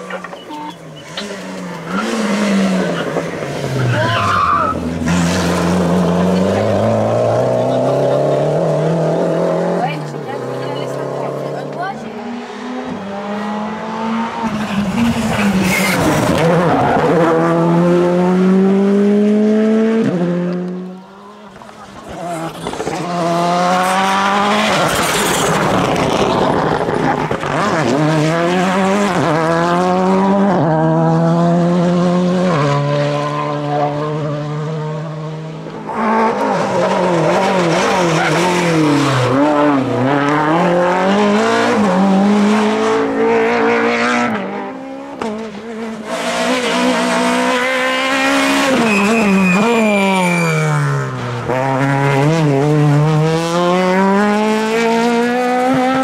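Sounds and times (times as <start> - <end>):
rally cars passing at speed: 0.0 - 56.0.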